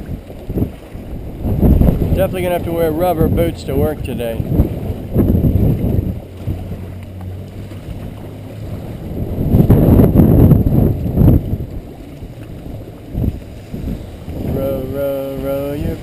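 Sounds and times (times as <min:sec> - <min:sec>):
swish of shallow water: 0:00.0 - 0:16.0
wind buffeting microphone: 0:00.0 - 0:16.0.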